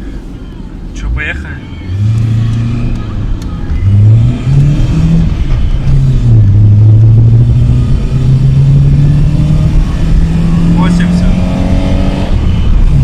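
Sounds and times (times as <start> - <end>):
car engine accelerating hard: 1.9 - 13.0.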